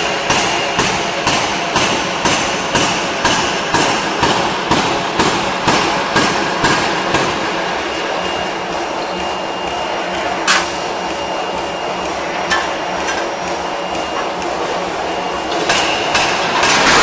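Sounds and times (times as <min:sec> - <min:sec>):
steady mechanical din: 0:00.0 - 0:17.0.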